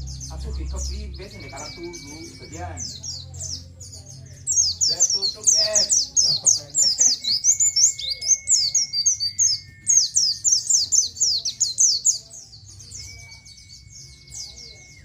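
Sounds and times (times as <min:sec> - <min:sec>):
bird chirping high notes: 0:00.0 - 0:15.0.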